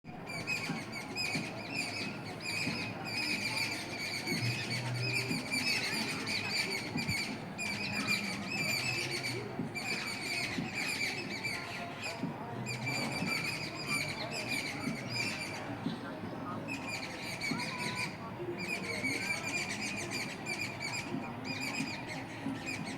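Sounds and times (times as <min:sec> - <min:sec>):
small birds chirping: 0:00.2 - 0:22.9.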